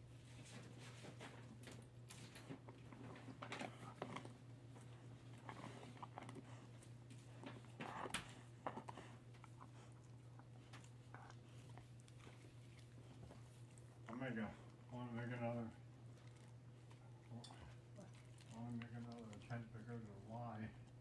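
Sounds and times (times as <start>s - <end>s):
steady low hum: 0.0s - 21.0s
dog chewing crunchy treat: 0.1s - 21.0s.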